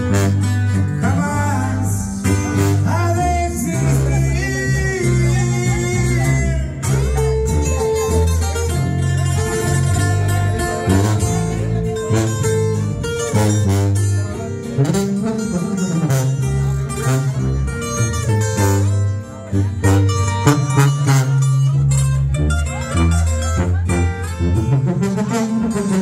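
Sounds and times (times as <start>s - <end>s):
plucked guitars picking quick notes: 0.0s - 26.0s
tuba bass line: 0.0s - 26.0s.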